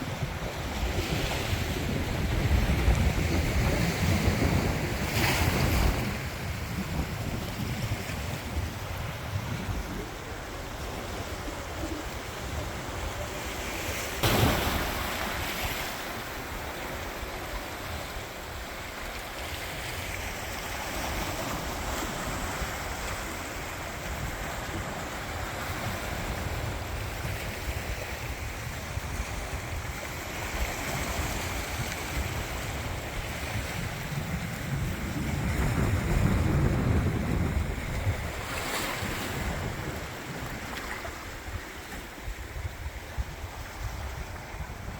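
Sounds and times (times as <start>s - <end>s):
sea waves washing on shore: 0.0s - 44.9s
wind buffeting microphone: 0.0s - 44.9s.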